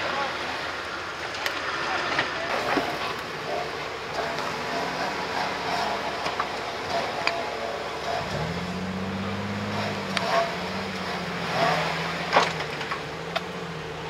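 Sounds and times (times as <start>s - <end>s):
vehicle rattling and creaking: 0.0s - 14.0s.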